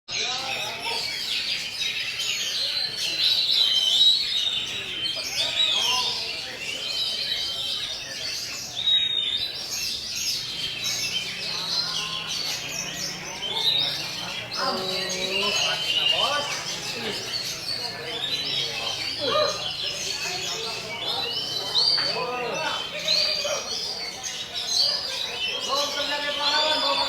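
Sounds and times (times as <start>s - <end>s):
songbird singing: 0.1s - 27.0s.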